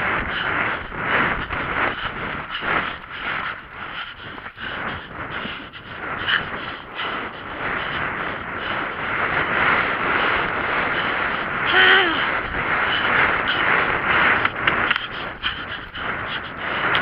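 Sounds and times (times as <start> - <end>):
rushing wind noise: 0.0 - 17.0.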